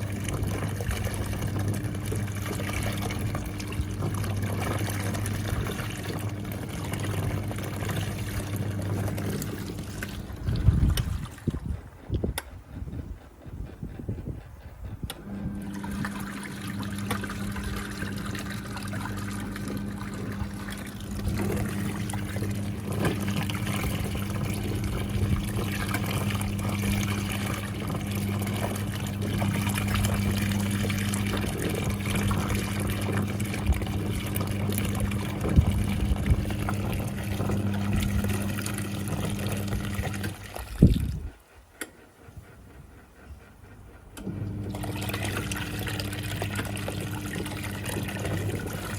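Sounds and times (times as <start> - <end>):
water swishing and churning: 0.0 - 42.9, 43.8 - 48.9
washing machine motor hum: 0.0 - 48.9.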